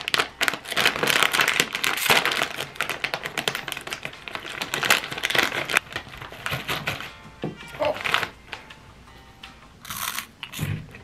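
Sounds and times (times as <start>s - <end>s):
snack bag crinkling: 0.0s - 8.7s, 9.8s - 10.7s.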